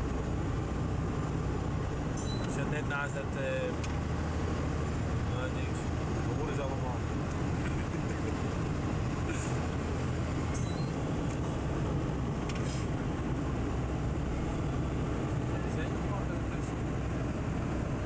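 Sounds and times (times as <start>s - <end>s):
lorry diesel engine drone: 0.0s - 18.0s.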